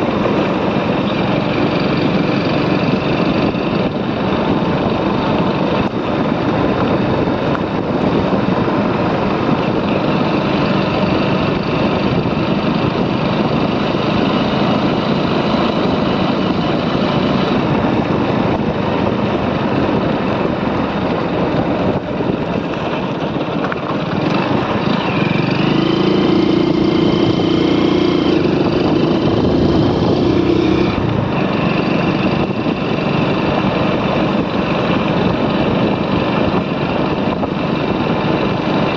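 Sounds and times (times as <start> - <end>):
motorcycle engine running: 0.0 - 38.9
road noise: 0.0 - 38.9
wind noise: 0.0 - 38.9.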